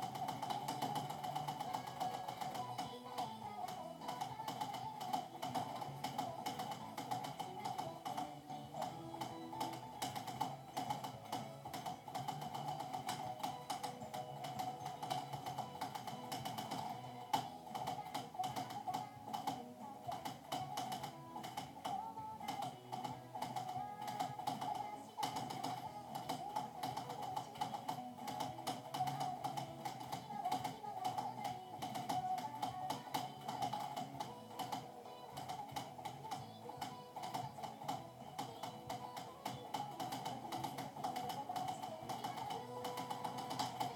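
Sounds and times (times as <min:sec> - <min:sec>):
background music: 0:00.0 - 0:43.9
mechanical keyboard typing: 0:00.0 - 0:43.9.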